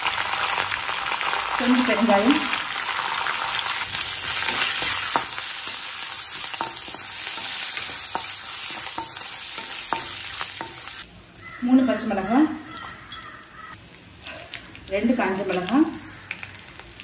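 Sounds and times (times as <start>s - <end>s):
nuts sizzling in hot oil: 0.0s - 17.0s.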